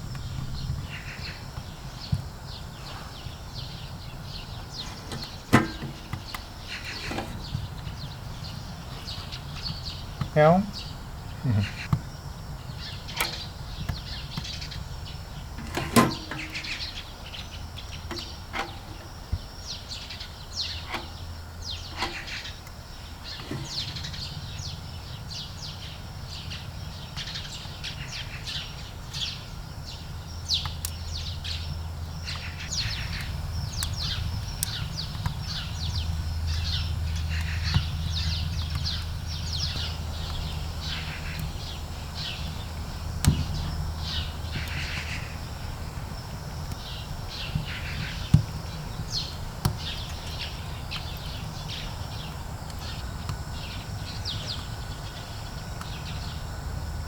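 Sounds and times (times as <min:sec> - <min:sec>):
steady low rumble: 0:00.0 - 0:27.1, 0:28.8 - 0:57.0
small birds chirping: 0:00.0 - 0:57.0.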